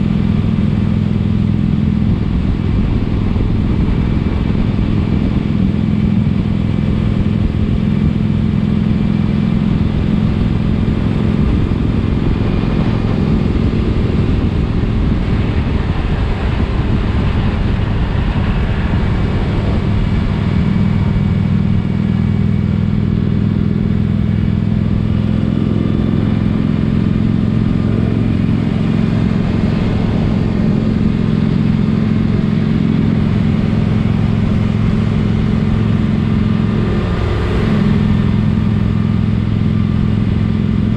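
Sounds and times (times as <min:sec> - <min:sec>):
motorcycle engine cruising: 0:00.0 - 0:40.9
wind and road noise: 0:00.0 - 0:40.9.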